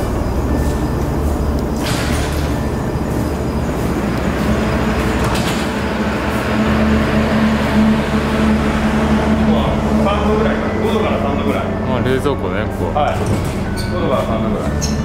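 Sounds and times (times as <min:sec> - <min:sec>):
constant hum: 0:00.0 - 0:15.0
machinery rumbling: 0:00.0 - 0:15.0.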